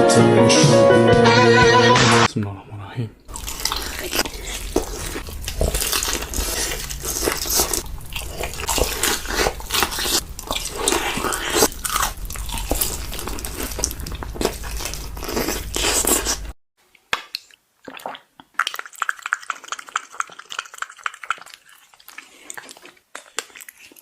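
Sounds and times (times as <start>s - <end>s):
person chewing crunchy food: 3.3s - 24.0s.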